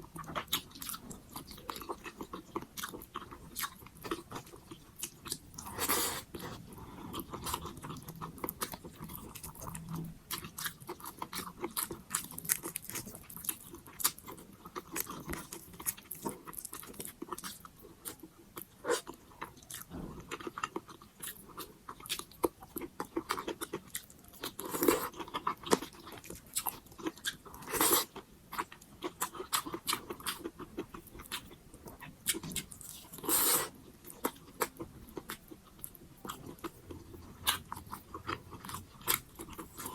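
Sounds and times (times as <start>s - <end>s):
person chewing and biting: 0.2s - 39.9s.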